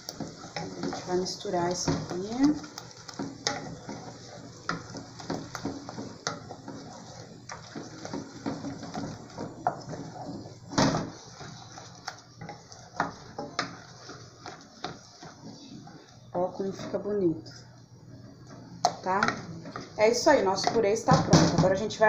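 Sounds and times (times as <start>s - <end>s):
wooden spoon scraping metal pot: 0.0s - 22.0s.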